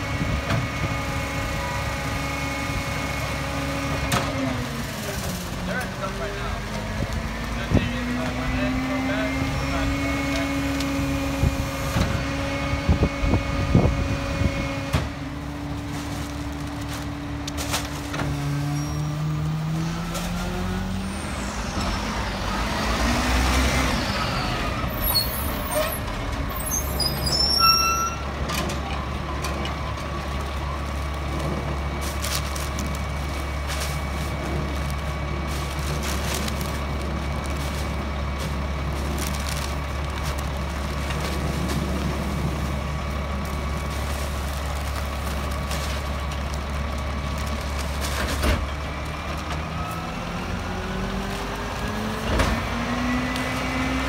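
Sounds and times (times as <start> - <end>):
garbage truck engine drone: 0.0 - 54.0.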